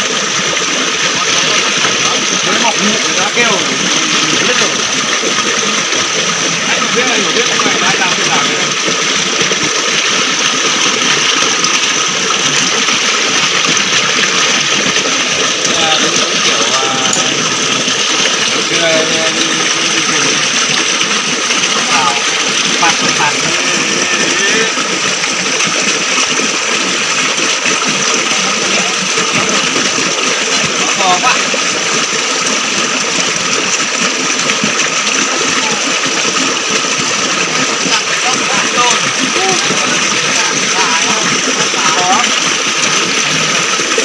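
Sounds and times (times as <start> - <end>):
stream water running over rocks: 0.0 - 44.0.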